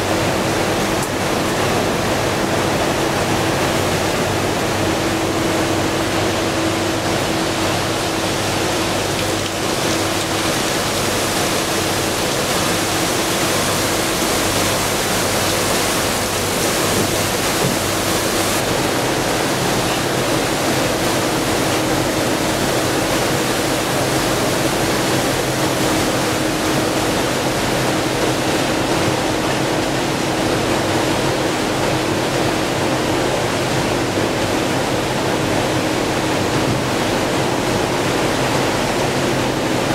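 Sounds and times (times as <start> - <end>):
boat engine drone: 0.0 - 39.9
boat rushing through water: 0.0 - 39.9.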